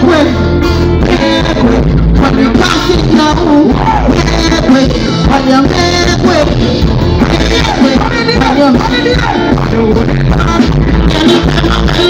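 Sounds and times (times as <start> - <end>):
live band playing: 0.0 - 12.0
woman singing into microphone: 1.0 - 12.0.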